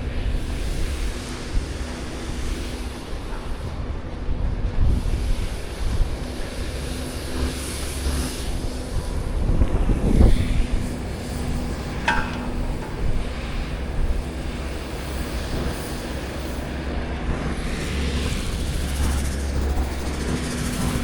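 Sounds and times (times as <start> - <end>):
faint engine hum: 0.0 - 21.0
wind rumbling on microphone: 0.0 - 21.0.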